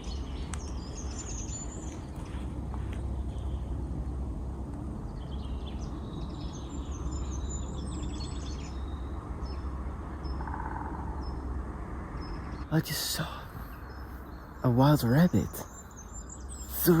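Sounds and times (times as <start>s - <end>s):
small birds singing: 0.0s - 17.0s
steady low rumble: 0.0s - 17.0s.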